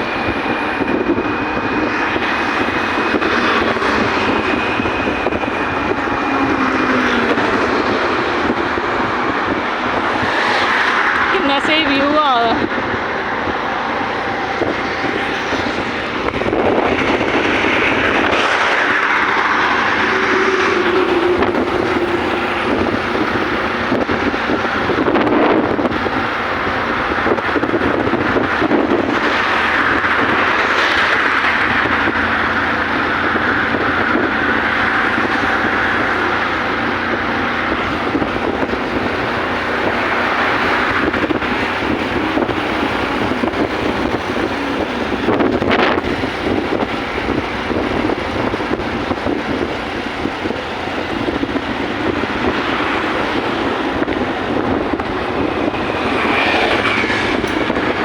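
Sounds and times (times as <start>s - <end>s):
loud rushing noise: 0.0s - 58.0s.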